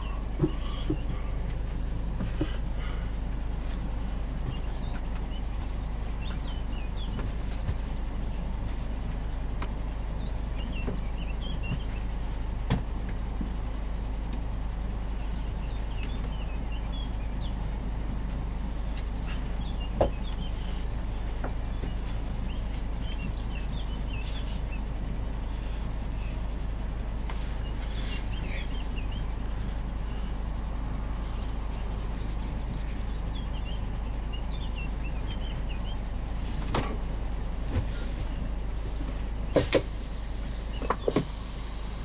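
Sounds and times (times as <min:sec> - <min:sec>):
birds chirping: 0:00.0 - 0:36.6, 0:37.6 - 0:42.0
motorhome engine rumbling: 0:00.0 - 0:42.0.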